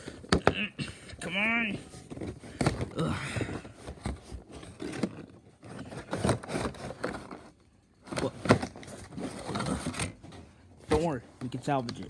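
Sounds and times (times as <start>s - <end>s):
cardboard box rustling: 1.4s - 11.7s.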